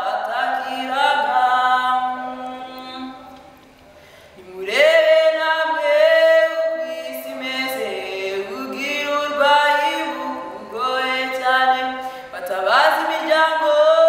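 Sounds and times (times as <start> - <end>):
a cappella group singing: 0.0 - 3.3, 4.4 - 14.0.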